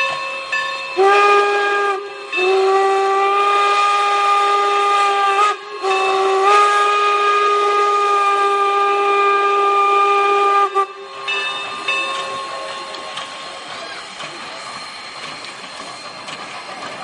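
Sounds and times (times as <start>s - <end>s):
steam locomotive whistle: 0.0s - 16.9s.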